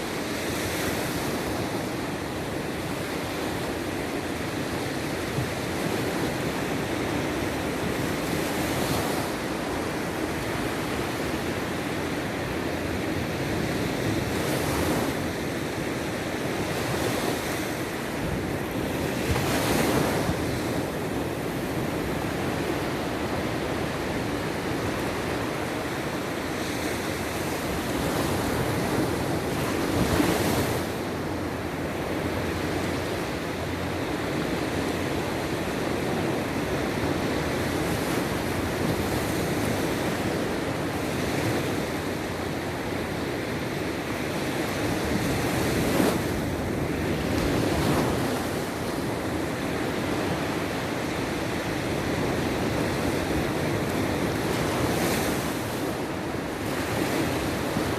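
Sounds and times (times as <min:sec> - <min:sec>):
sea waves washing onto shore: 0:00.0 - 0:57.9
wind rumble on microphone: 0:00.0 - 0:57.9.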